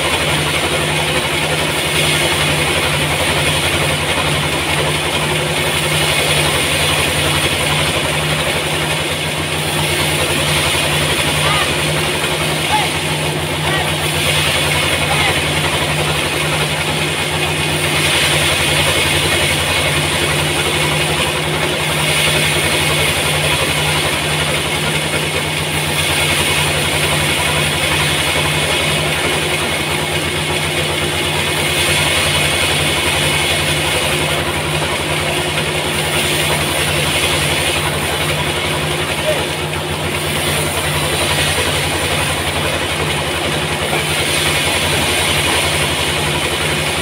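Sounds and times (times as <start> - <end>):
band saw machine hum: 0.0 - 47.0.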